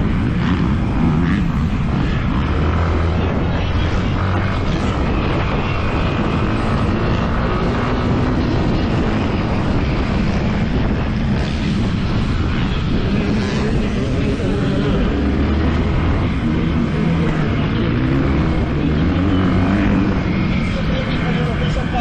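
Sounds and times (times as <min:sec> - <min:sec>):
motorcycle engine running: 0:00.0 - 0:22.0
wind noise on microphone: 0:00.0 - 0:22.0.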